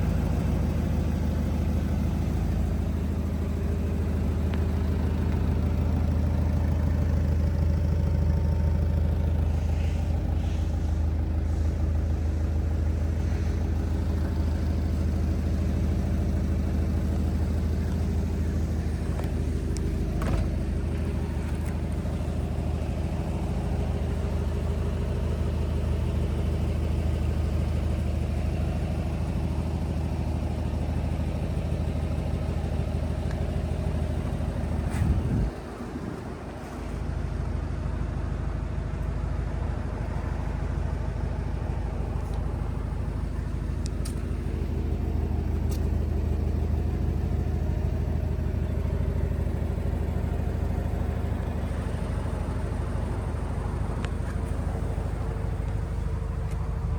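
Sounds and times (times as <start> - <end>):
car engine idling: 0.0 - 56.9.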